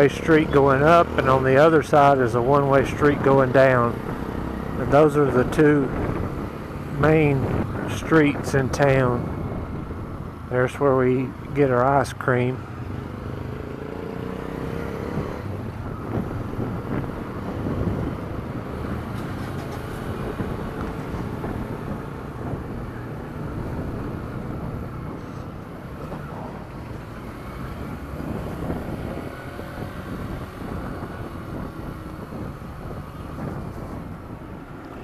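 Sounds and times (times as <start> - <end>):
wind noise on microphone: 0.0 - 10.6, 14.5 - 35.0.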